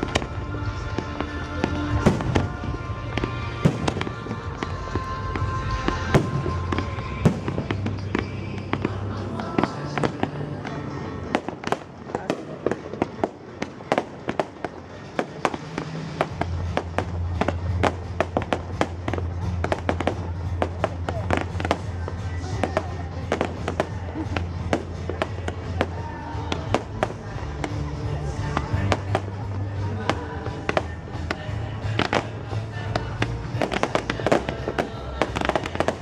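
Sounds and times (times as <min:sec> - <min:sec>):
fireworks cracks and bangs: 0:00.0 - 0:36.0
music: 0:00.0 - 0:36.0.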